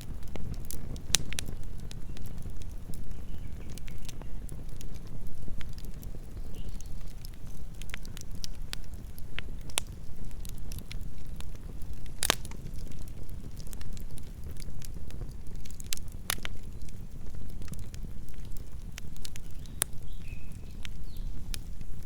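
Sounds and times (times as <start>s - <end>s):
low steady fire rumble: 0.0s - 22.0s
wood crackling and popping: 0.0s - 22.0s.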